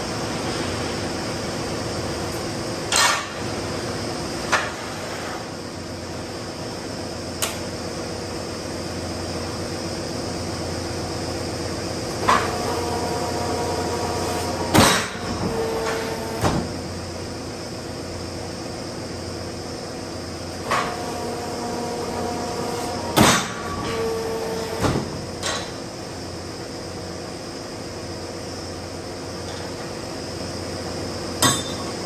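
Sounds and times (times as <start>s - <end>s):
metalworking machinery hum: 0.0s - 32.0s.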